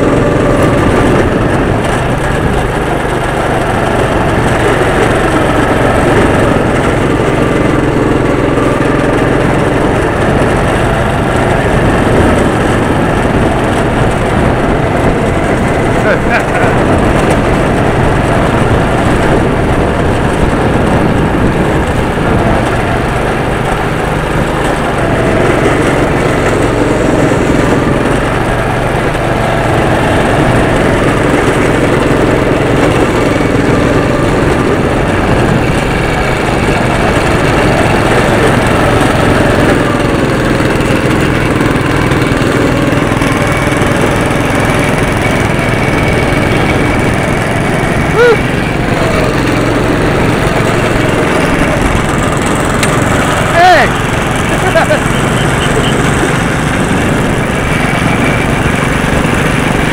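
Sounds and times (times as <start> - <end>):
go-kart engine running: 0.0 - 59.9.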